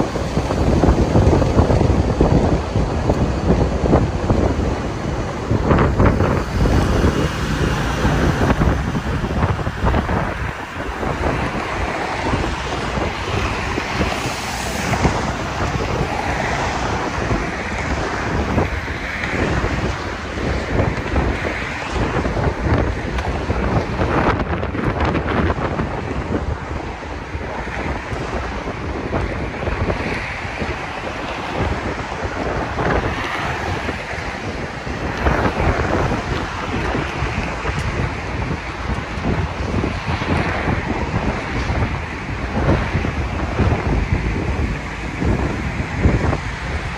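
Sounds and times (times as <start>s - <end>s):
road and traffic noise: 0.0s - 46.9s
wind buffeting microphone: 0.0s - 46.9s.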